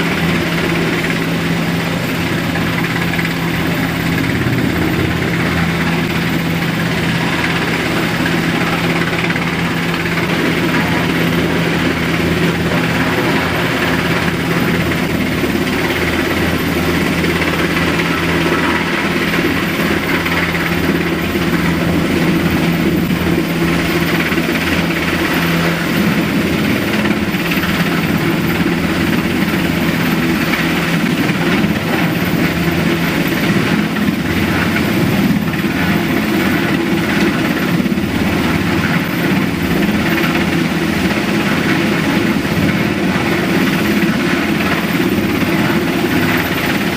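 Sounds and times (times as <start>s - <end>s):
muffled helicopter drone: 0.0s - 46.9s.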